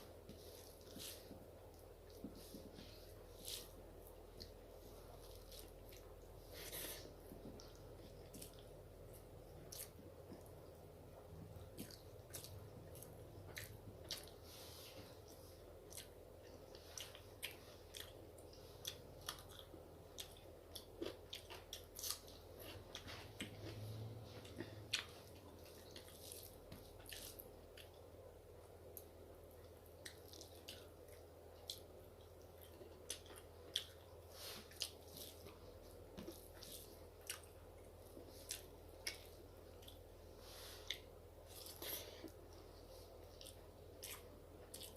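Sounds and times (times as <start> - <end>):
faint steady hum: 0.0 - 44.9
person chewing food: 0.0 - 44.9.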